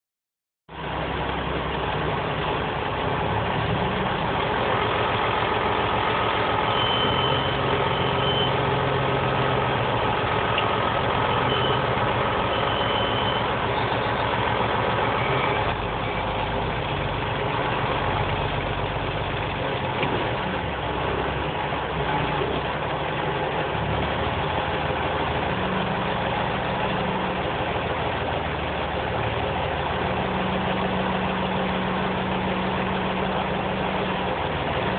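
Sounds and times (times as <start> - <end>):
tractor engine running: 0.7 - 34.9.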